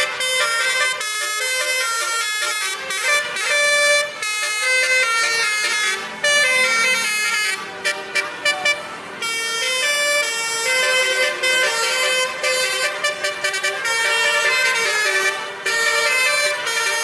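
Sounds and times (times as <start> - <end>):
musical air horns playing melody: 0.0 - 17.0.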